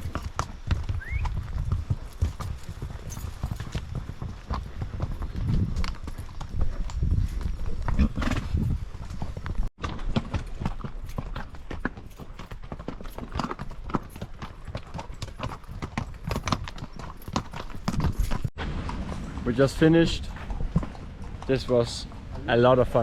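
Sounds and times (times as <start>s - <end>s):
horse hooves clip-clopping: 0.0s - 23.0s.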